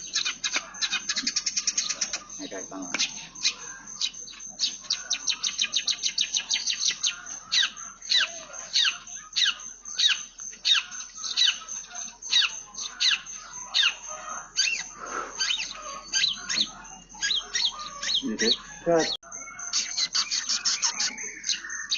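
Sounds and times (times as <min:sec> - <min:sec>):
bird singing chirps: 0:00.0 - 0:21.9.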